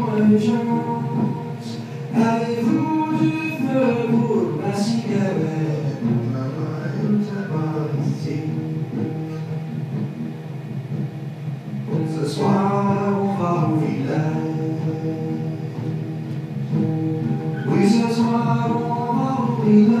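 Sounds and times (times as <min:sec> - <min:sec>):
person singing: 0:00.0 - 0:09.8, 0:11.9 - 0:16.3, 0:17.5 - 0:20.0
held music chords: 0:00.0 - 0:20.0.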